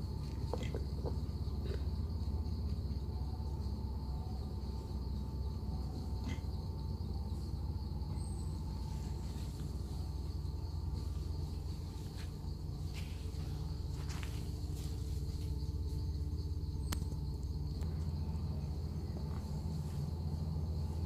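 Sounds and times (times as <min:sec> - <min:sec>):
high insect chirring: 0:00.0 - 0:21.0.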